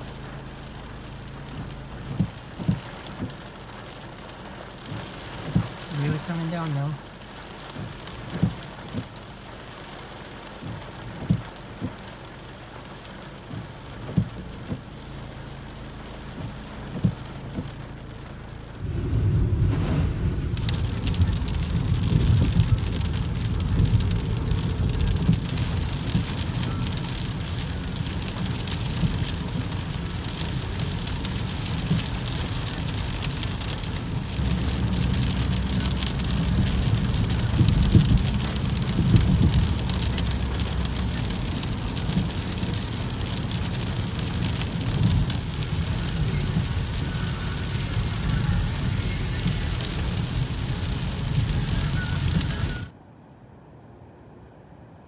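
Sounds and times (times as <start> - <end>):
heavy rain on car roof: 0.0 - 53.0
tyres on wet road: 0.0 - 53.0.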